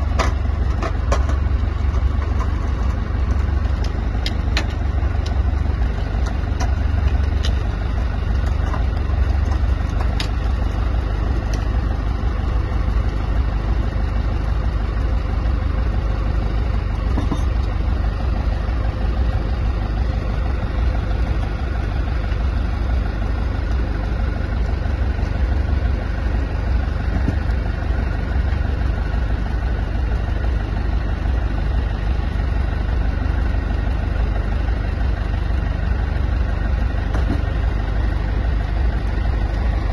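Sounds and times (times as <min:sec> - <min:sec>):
engine rumbling steadily: 0:00.0 - 0:39.9.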